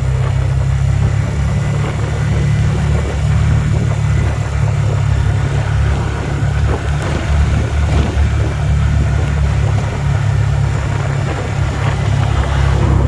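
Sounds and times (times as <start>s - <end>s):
car engine rumble: 0.0s - 13.0s
road noise inside car: 0.0s - 13.0s.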